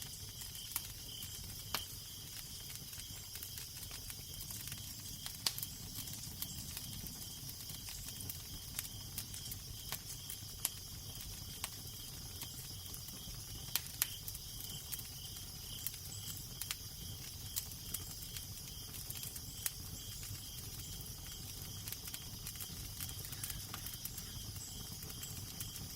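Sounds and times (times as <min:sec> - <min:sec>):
fire crackling with pops: 0:00.0 - 0:25.9.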